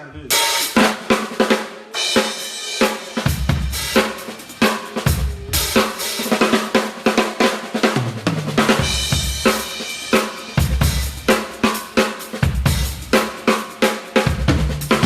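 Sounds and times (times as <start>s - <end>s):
cymbal wash: 0.3s - 15.0s
snare drum: 0.3s - 15.0s.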